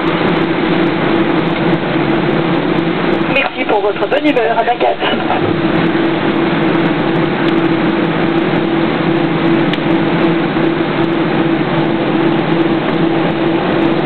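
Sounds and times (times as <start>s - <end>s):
air-conditioning rushing: 0.0s - 14.0s
jet engines idling: 0.0s - 14.0s.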